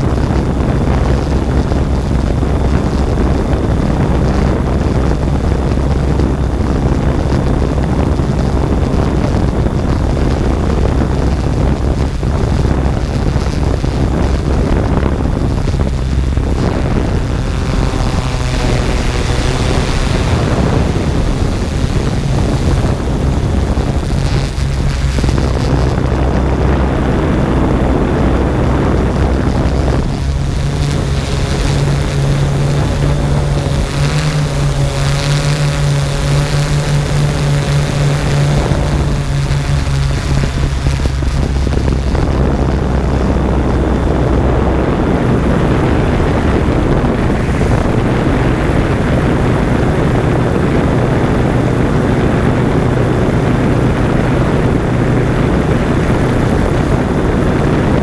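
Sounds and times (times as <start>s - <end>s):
drone rotor hum: 0.0s - 58.0s.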